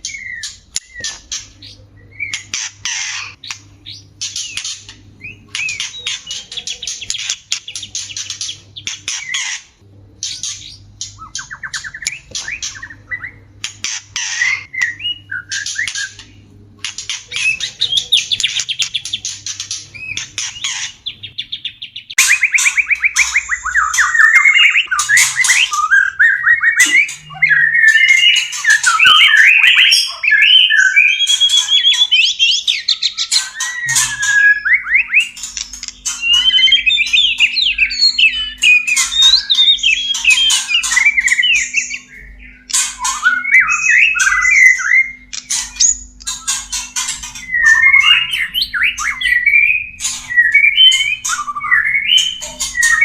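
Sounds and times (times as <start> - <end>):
bird harsh chatter calls: 0.0 - 53.0
bird song with whistles and trills: 0.0 - 53.0.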